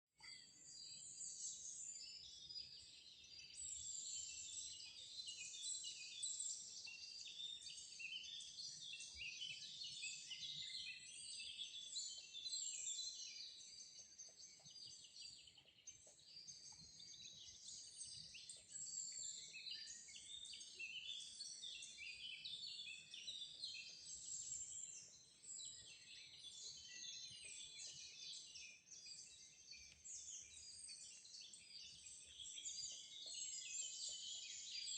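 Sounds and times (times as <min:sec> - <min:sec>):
chorus of birds chirping: 0:00.2 - 0:34.9.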